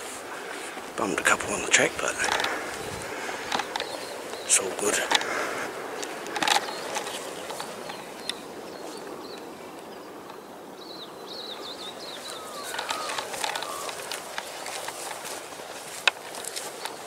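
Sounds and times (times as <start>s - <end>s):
rustles or steps: 0.0s - 9.1s, 11.9s - 17.0s
steady background hiss: 0.0s - 17.0s.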